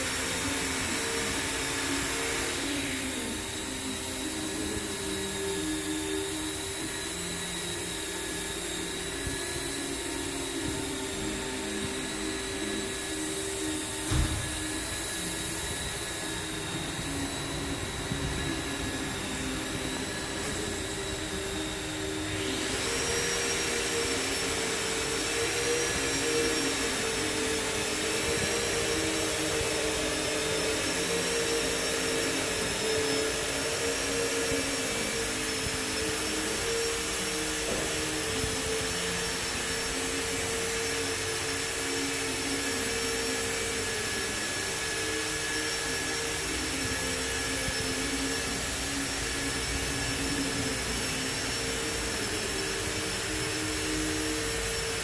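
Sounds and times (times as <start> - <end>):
high machine whine: 0.0 - 55.0
machinery droning: 0.0 - 55.0.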